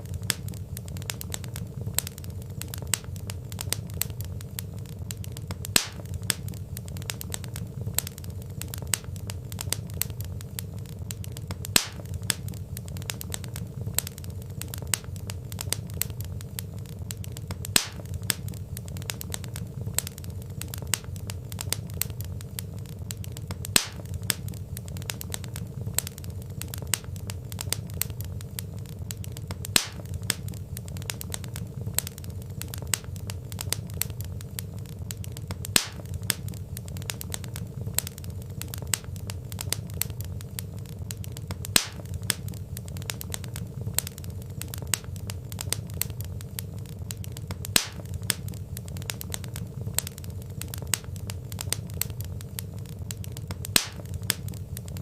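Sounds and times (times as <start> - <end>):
loud pop from fire: 0.0 - 55.0
low rumble of burning logs: 0.0 - 55.0
wood fire crackling: 0.0 - 55.0.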